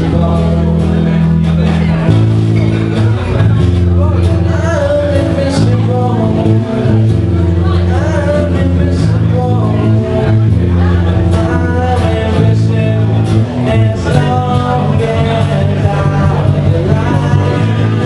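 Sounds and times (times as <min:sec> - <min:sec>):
person singing: 0:00.0 - 0:02.2, 0:02.9 - 0:18.0
live band playing: 0:00.0 - 0:18.0.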